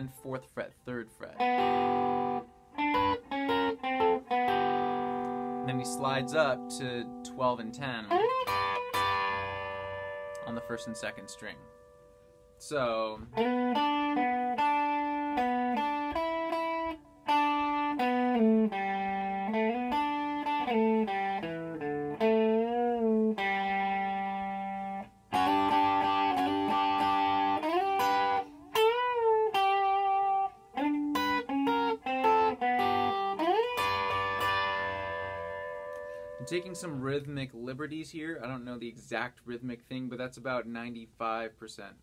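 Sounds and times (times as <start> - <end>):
electric guitar solo: 1.3 - 37.2.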